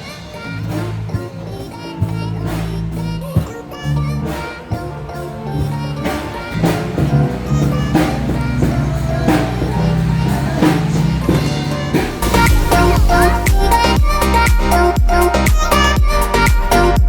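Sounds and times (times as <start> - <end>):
upbeat tropical music with drums: 0.0 - 17.0.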